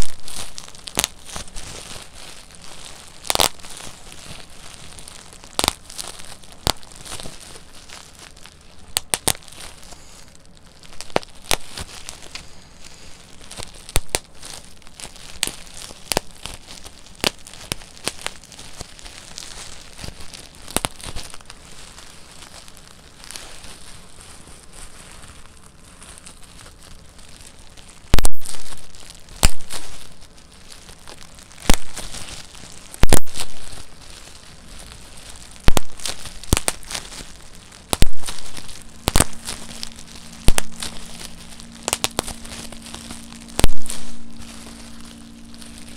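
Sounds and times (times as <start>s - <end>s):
bubble wrap popping: 0.0s - 45.9s
plastic sheet crinkling: 0.0s - 45.9s.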